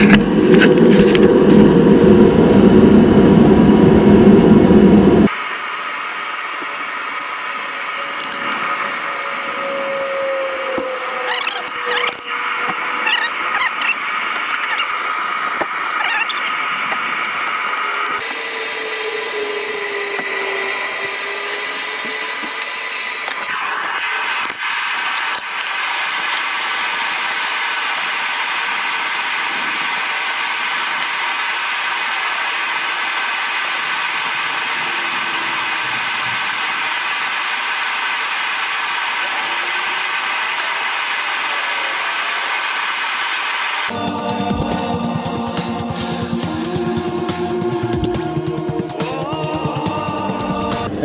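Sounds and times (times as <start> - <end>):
leaf blower running: 5.2 - 51.0.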